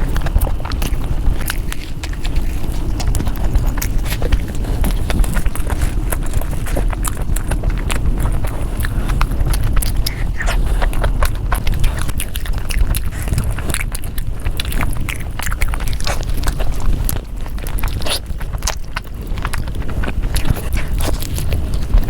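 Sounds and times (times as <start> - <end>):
chewing and biting food: 0.0 - 22.0.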